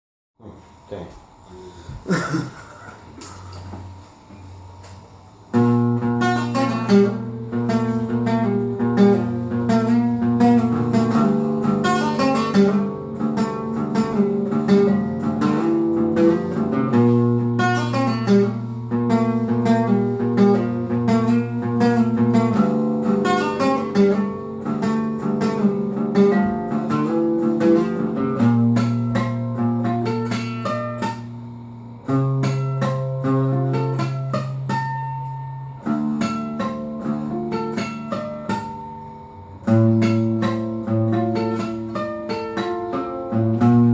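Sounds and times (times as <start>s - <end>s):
guitar playing: 0.4s - 43.9s.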